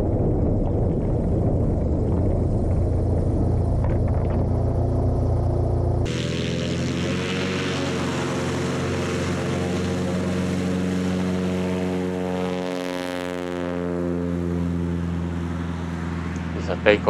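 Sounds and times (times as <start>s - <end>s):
airplane engine at full power: 0.0s - 17.0s.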